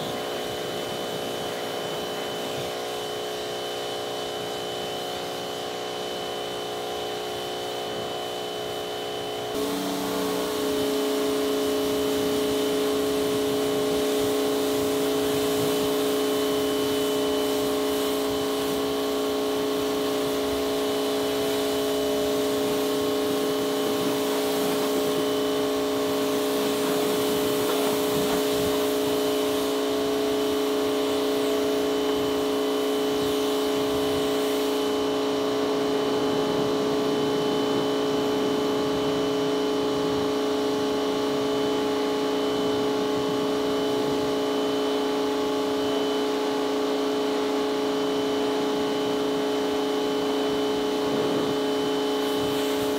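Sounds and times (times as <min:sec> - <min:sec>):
pressure washer humming: 0:00.0 - 0:52.9
water jet hissing on car: 0:00.0 - 0:52.9.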